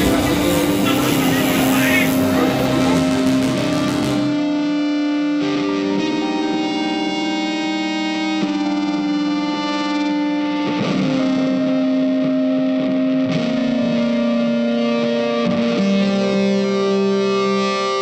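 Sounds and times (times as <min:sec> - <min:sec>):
music with long held notes: 0:00.0 - 0:18.0.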